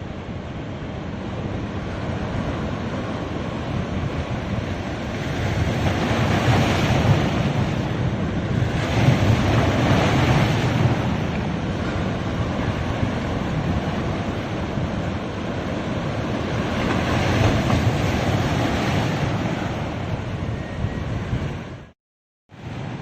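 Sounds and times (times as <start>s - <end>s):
sea waves washing onto beach: 1.5s - 20.1s.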